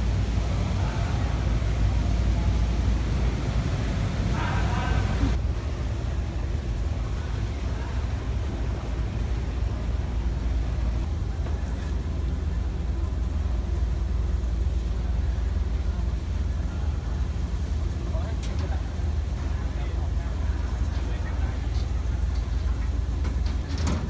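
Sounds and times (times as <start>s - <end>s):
ship engines rumbling: 0.0s - 24.0s.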